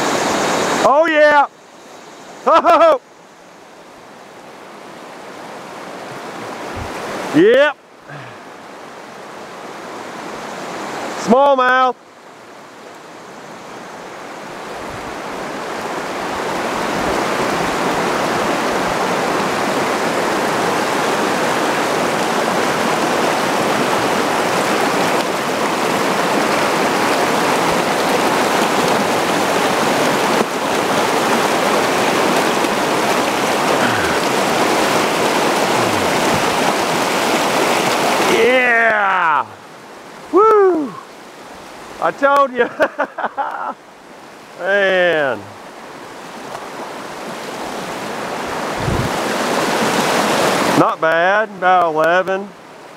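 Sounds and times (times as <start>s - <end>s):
river rapid rushing: 0.0s - 52.9s.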